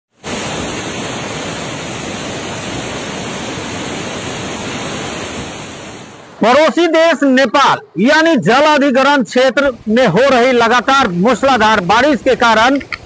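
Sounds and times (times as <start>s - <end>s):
turbulent water rushing: 0.2s - 8.6s, 9.6s - 13.0s.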